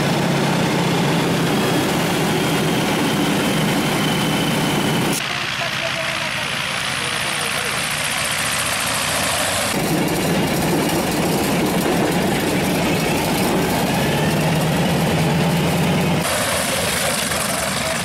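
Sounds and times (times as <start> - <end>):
propeller plane engine running: 0.0 - 18.0.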